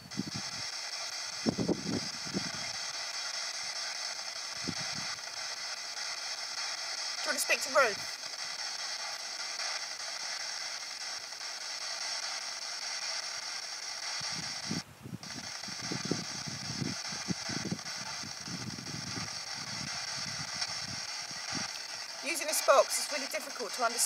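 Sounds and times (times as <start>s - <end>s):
choppy broadcast fragments: 0.0s - 24.0s
radio static hiss: 0.0s - 24.0s.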